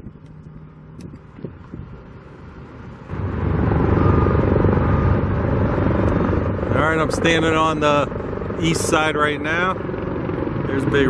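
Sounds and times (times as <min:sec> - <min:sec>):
heavy engine rumbling: 0:00.0 - 0:11.0.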